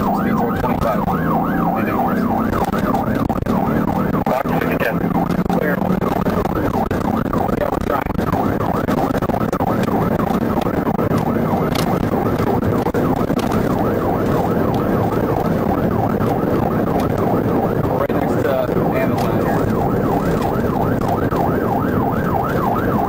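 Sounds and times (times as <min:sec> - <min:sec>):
car engine and tyres rumbling: 0:00.0 - 0:23.0
police siren yelping: 0:00.0 - 0:23.0.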